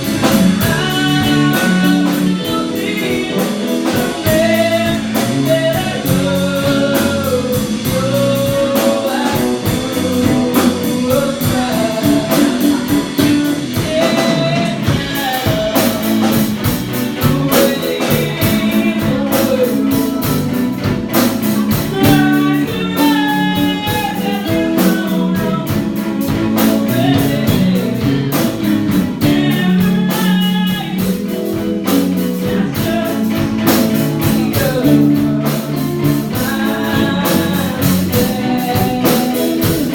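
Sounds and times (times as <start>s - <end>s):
drum kit: 0.0s - 39.9s
electric guitar: 0.0s - 39.9s
person singing: 0.0s - 39.9s
rock band playing: 0.0s - 39.9s.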